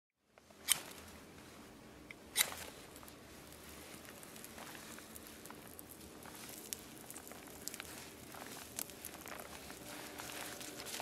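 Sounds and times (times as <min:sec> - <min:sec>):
bark burning with crackles: 0:02.1 - 0:11.0.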